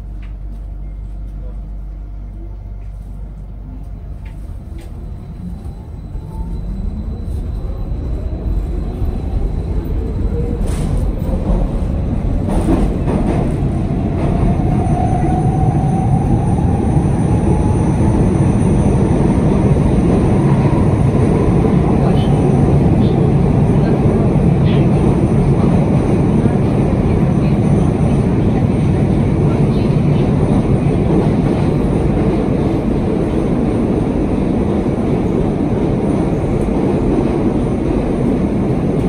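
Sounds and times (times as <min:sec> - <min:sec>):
wheel and track rumble: 0:02.8 - 0:39.0.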